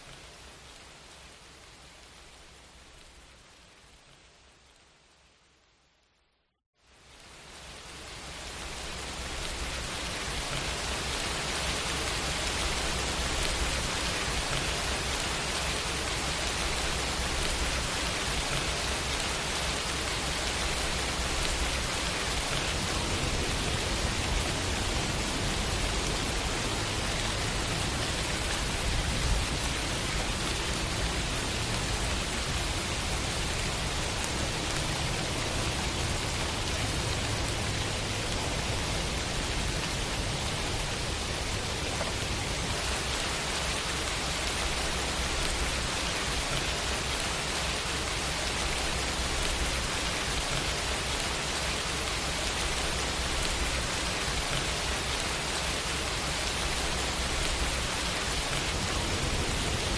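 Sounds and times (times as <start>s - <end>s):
steady dense rain: 0.0s - 59.9s.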